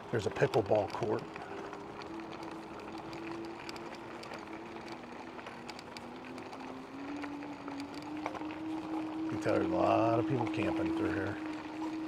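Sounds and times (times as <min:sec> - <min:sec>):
electric bike motor whining: 0:00.0 - 0:12.0
tyres rolling on dirt road: 0:00.0 - 0:12.0.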